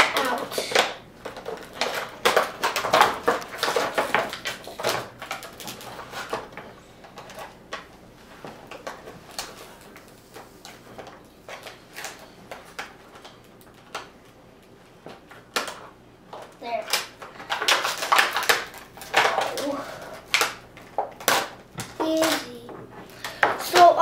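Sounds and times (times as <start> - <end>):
plastic packaging clicks and rustles: 0.0 - 24.0.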